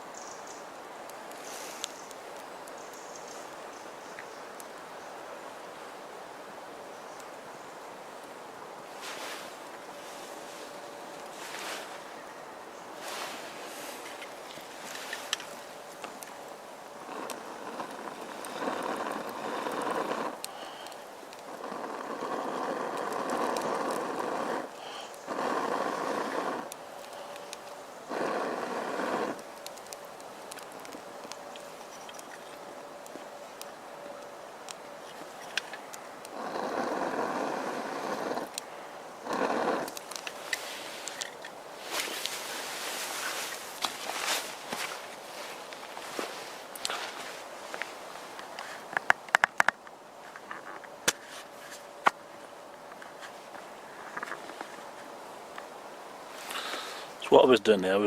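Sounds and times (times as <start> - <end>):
burning twigs crackling: 0.0 - 58.0.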